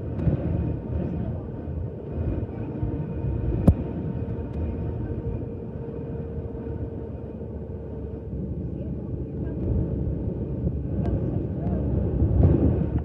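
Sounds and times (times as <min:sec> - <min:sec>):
low rumble of engines and airflow: 0:00.0 - 0:13.0.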